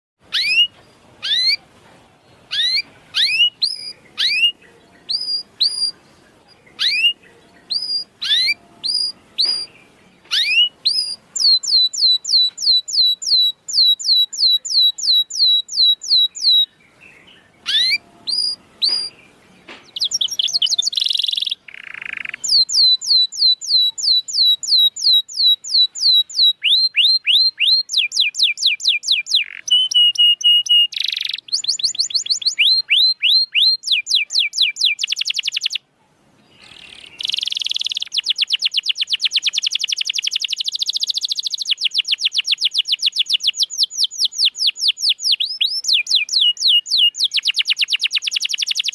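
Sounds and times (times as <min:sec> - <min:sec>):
canary singing: 0:00.2 - 0:35.8, 0:36.4 - 0:48.9.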